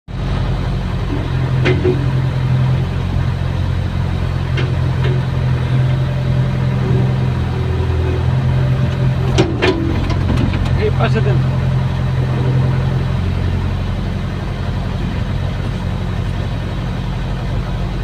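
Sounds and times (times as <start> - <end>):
excavator diesel engine running: 0.1 - 18.0.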